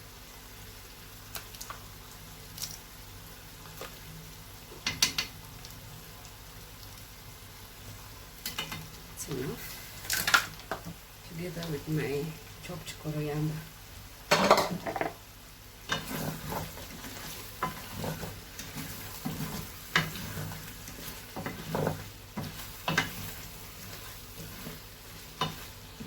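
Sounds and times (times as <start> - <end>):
stew sizzling: 0.0 - 26.0.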